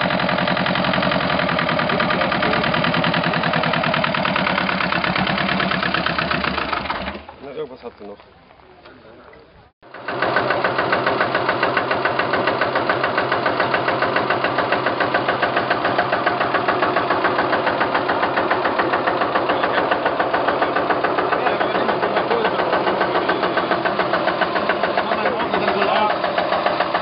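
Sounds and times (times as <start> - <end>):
diesel engine idling: 0.0 - 7.6, 9.8 - 27.0.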